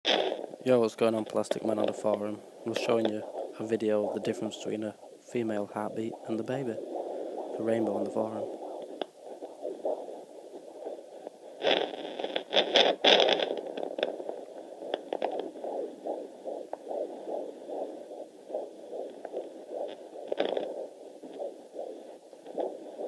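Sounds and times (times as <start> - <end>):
fetal heartbeat whooshing pulse: 0.1 - 23.0
scratchy crackling: 0.1 - 23.0.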